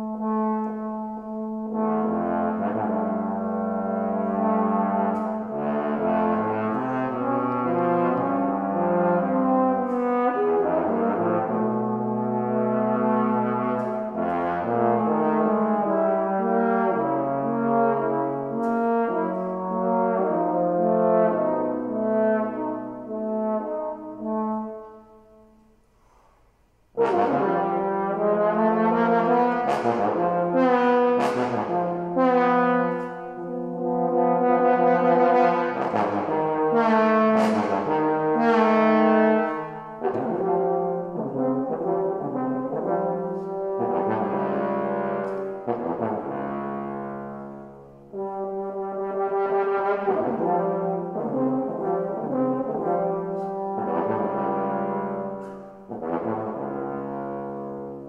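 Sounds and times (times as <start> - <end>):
trombone duet: 0.0 - 25.6, 26.8 - 58.0.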